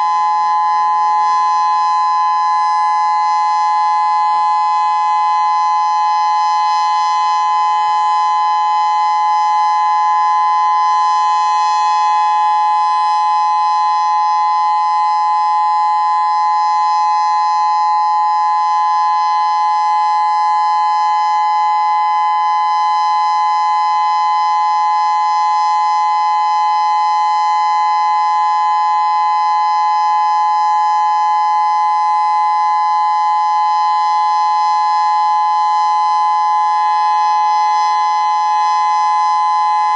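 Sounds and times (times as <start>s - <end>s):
steady electronic warning siren: 0.0s - 39.9s.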